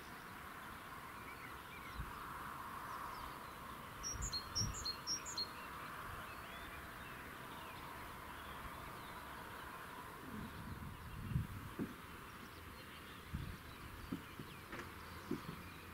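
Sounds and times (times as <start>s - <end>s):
bird chirping: 0.0s - 15.9s
faint outdoor hiss: 0.0s - 15.9s.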